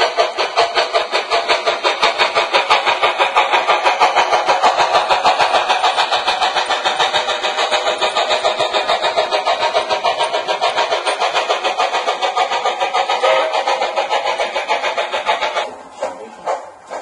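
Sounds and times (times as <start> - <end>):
model train wheels clattering: 0.0 - 17.0.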